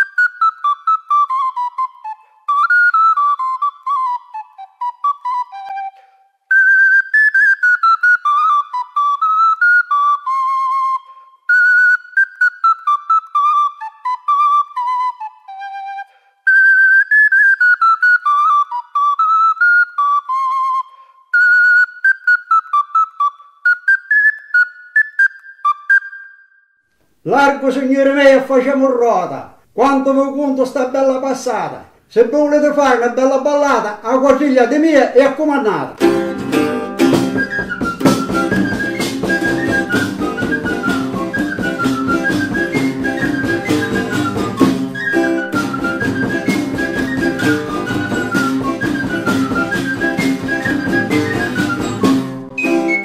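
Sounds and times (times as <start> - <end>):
duct flute playing folk tune: 0.0 - 28.4, 35.2 - 53.0.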